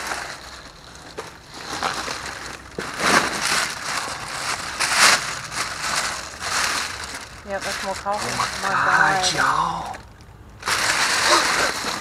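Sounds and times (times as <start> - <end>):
plastic trash bag rustling: 0.0 - 12.0.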